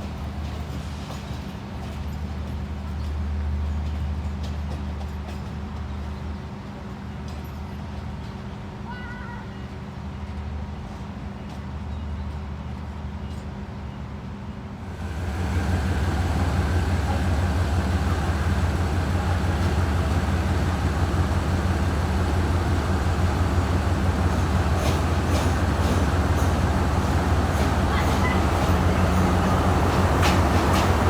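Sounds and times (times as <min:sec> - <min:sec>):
diesel train engine rumble: 0:00.0 - 0:31.0.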